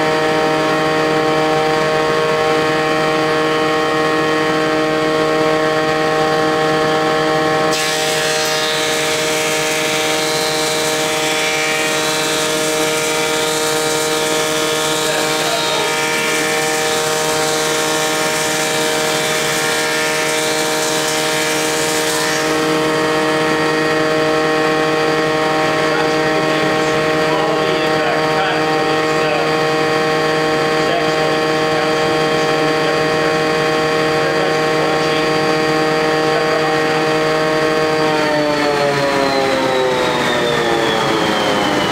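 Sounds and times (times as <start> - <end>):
dust collector running: 0.0 - 41.9
planer cutting board: 0.0 - 41.9
thickness planer running: 0.0 - 41.9.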